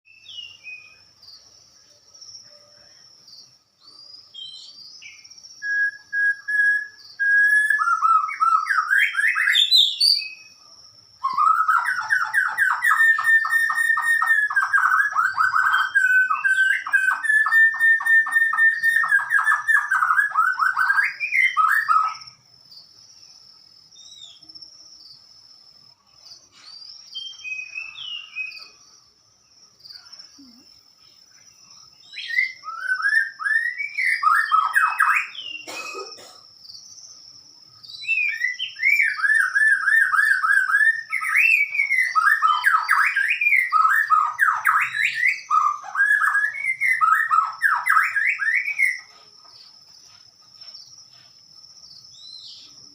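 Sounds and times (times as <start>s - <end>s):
bird singing: 0.0s - 52.9s.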